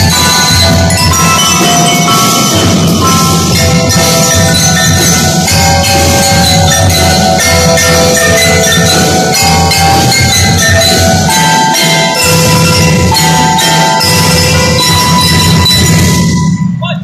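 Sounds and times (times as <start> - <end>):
bell lyres ringing melody: 0.0 - 16.8
drum and lyre band playing: 0.0 - 16.8.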